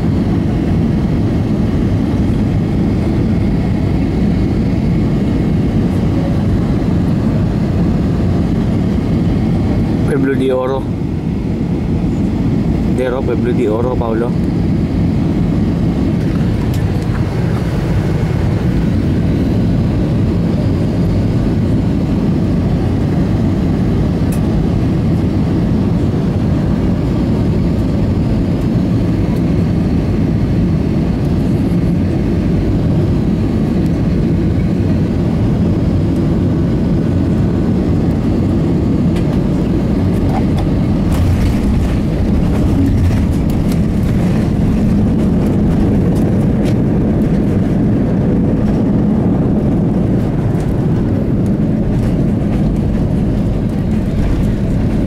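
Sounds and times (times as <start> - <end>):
jet engines and airflow in cabin: 0.0 - 55.0.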